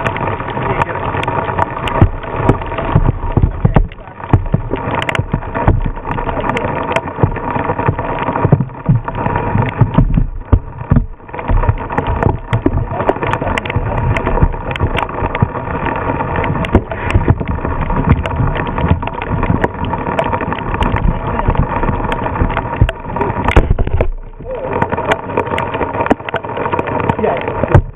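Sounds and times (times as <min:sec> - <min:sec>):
heavy rain: 0:00.0 - 0:27.9
wind buffeting microphone: 0:00.0 - 0:27.9.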